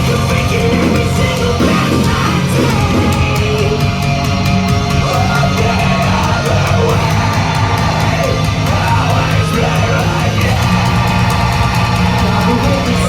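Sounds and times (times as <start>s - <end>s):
person yelling and singing: 0.0s - 4.2s, 4.9s - 13.0s
driving drums: 0.0s - 13.0s
live rock band playing: 0.0s - 13.0s.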